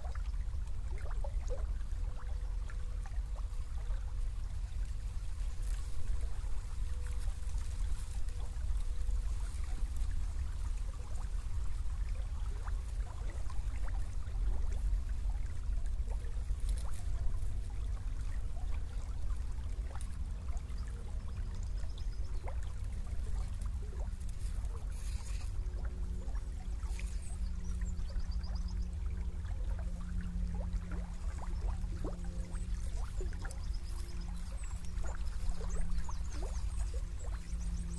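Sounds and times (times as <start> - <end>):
faint low hum: 0.0 - 37.9
small stream flowing: 0.0 - 37.9.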